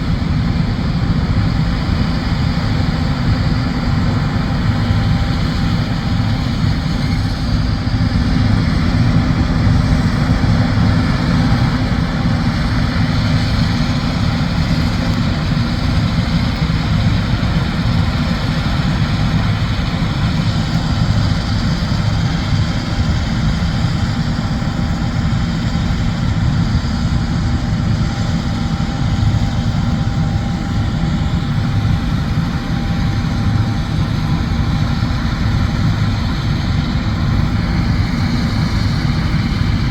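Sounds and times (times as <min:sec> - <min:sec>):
combine harvester diesel engine drone: 0:00.0 - 0:39.9.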